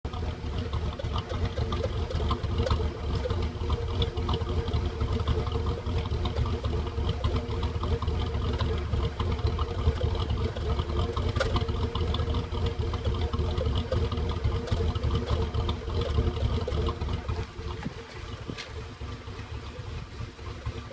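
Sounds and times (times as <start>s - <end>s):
truck engine idling roughly: 0.0s - 20.9s.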